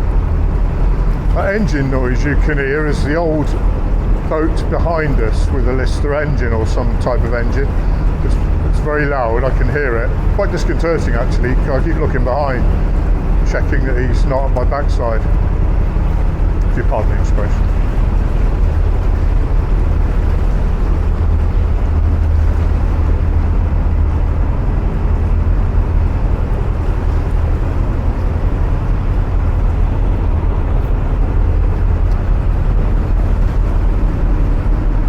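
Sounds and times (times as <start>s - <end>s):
boat engines rumbling: 0.0s - 35.0s.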